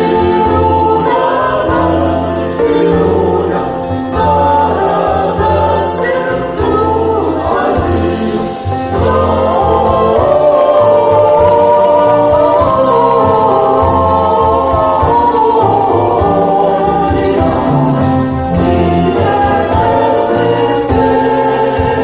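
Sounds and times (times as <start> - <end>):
choir singing: 0.0 - 22.0
low bass accompaniment: 0.0 - 22.0.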